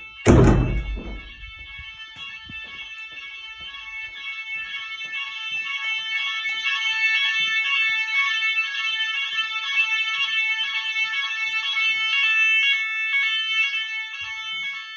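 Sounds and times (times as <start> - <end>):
fire alarm shrill tone: 0.0 - 14.9.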